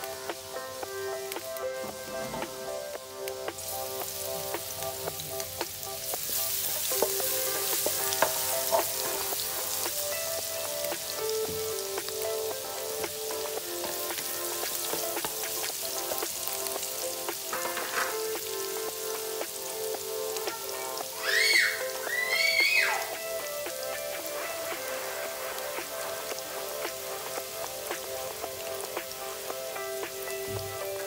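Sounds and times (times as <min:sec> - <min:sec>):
garlic sizzling in hot oil: 0:00.0 - 0:31.0.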